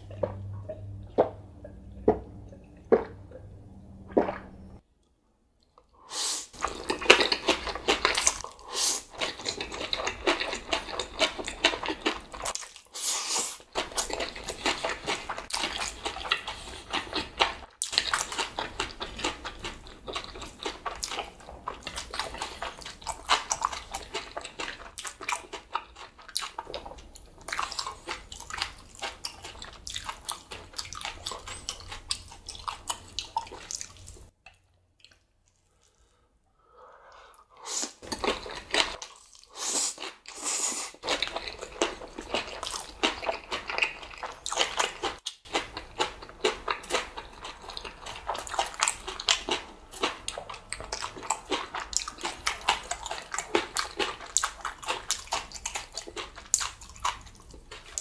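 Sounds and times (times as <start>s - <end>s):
slurping and chewing noodles: 6.0s - 36.2s, 37.3s - 58.0s.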